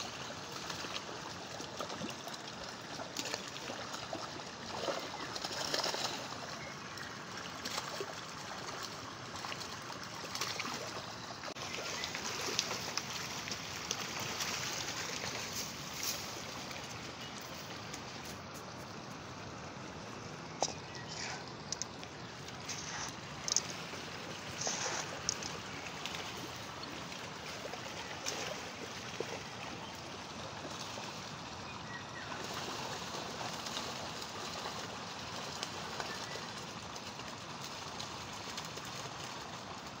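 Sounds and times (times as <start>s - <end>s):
flowing stream: 0.0s - 40.0s.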